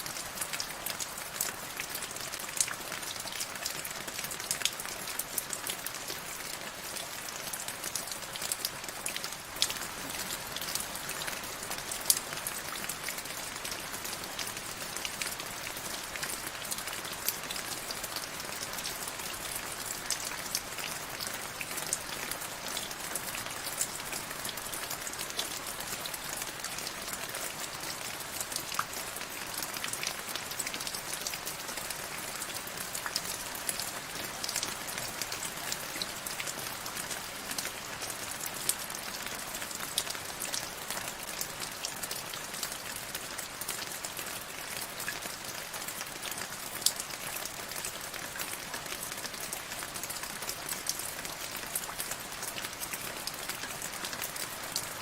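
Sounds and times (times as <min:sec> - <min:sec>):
raindrops ticking on a surface: 0:00.0 - 0:55.0.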